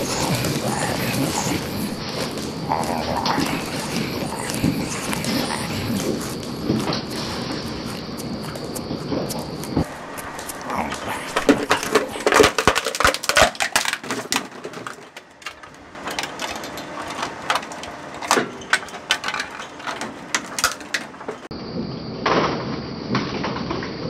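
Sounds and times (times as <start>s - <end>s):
shredder crushing plastic: 0.0s - 9.0s, 9.6s - 21.5s.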